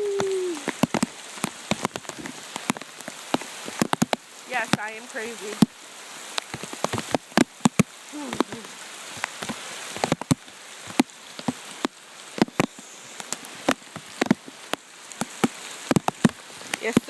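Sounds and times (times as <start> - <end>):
rain hiss: 0.0 - 17.0
raindrops tapping on plastic bag: 0.0 - 17.0.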